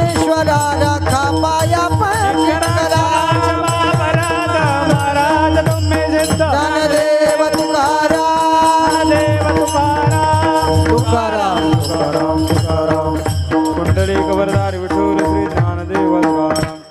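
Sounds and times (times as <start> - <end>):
hand cymbals jingling: 0.0 - 16.9
man singing devotional song: 0.0 - 16.9.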